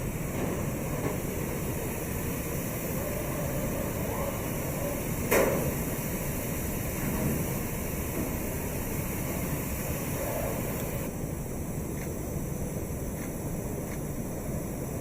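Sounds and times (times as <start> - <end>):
factory floor noise: 0.0 - 15.0.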